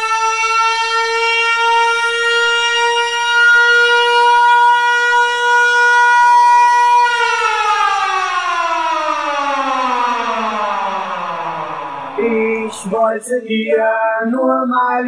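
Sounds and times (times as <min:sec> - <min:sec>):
siren-like tone falling in pitch: 0:00.0 - 0:13.2.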